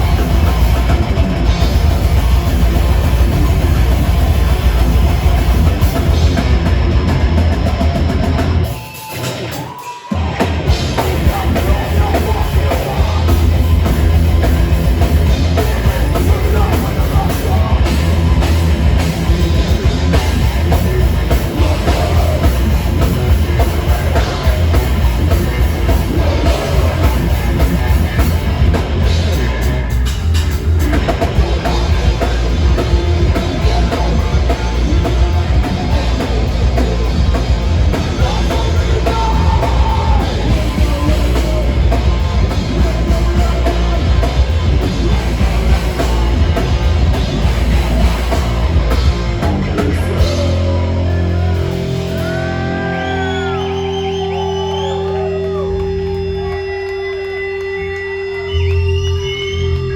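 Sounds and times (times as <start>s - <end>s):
drum kit pounding: 0.0s - 55.7s
heavy metal band playing: 0.0s - 59.9s.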